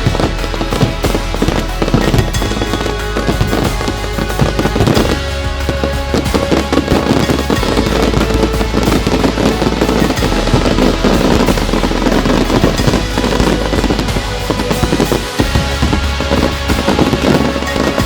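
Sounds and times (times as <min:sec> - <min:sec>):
fireworks crackling and banging: 0:00.0 - 0:18.0
music with deep bass: 0:00.0 - 0:18.0.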